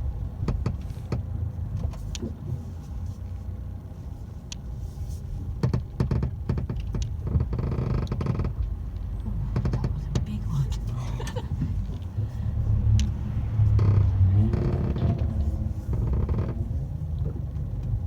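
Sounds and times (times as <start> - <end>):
road and engine rumble in car: 0.0 - 18.0
seat backs creaking and clicking: 0.0 - 18.0.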